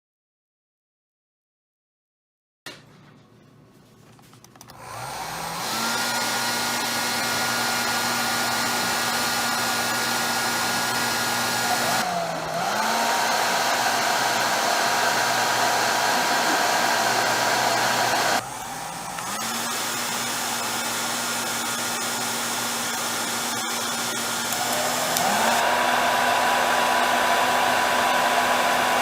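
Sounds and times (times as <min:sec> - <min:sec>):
hair dryer running: 0:04.7 - 0:29.0.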